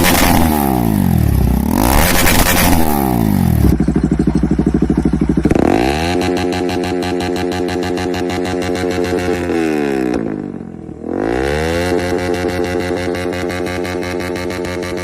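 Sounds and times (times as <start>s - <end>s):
motorcycle engine idling: 0.0s - 11.2s, 11.8s - 15.0s
motorcycle engine revving: 0.0s - 15.0s.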